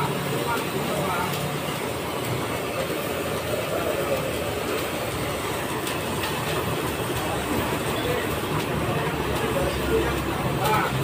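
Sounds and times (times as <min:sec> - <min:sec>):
steady mechanical running noise: 0:00.0 - 0:11.0.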